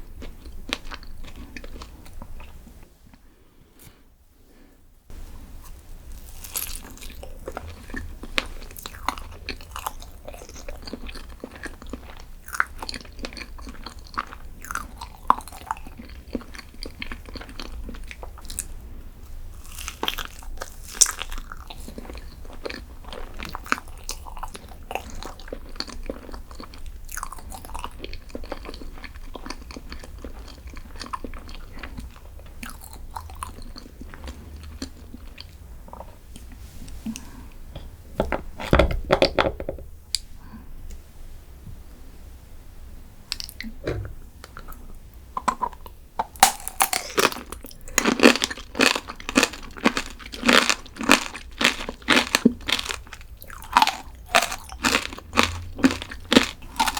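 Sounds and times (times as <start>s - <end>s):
crunchy eating and chewing: 0.0s - 4.0s, 5.1s - 37.5s, 44.4s - 56.9s.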